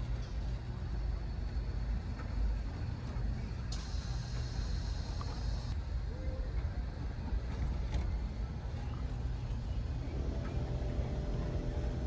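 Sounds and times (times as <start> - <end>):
faint held hum: 0.0 - 12.0
low outdoor rumble: 0.0 - 12.0.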